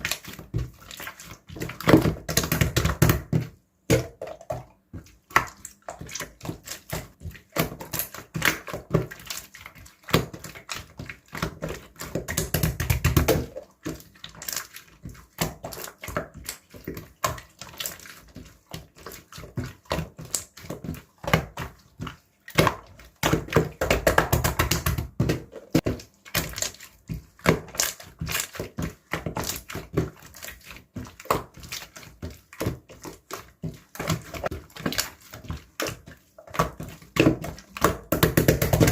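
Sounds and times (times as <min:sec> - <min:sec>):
slime squishing by hand: 0:00.0 - 0:38.9.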